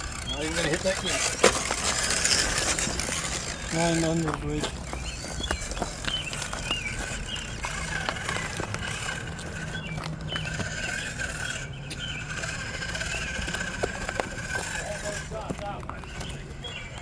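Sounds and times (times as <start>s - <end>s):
rc crawler clicks and knocks: 0.0s - 17.0s.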